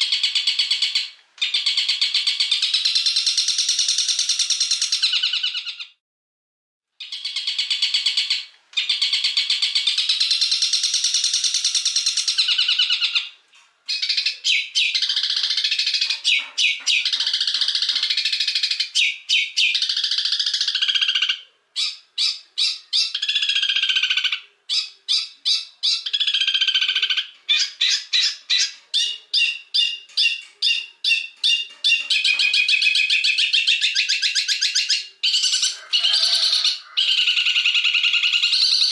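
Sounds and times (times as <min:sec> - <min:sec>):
songbird trilling and whistling: 0:00.0 - 0:05.9, 0:07.0 - 0:38.9.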